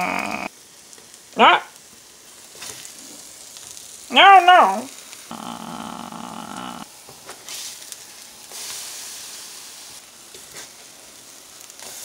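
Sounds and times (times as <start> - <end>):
batter sizzling in a frying pan: 0.5 - 4.1, 4.8 - 6.0, 6.8 - 12.0.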